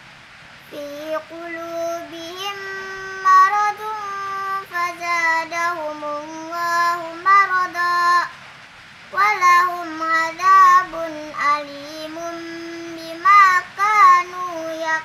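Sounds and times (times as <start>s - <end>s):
girl chanting melodically: 0.7s - 8.4s, 9.1s - 15.0s.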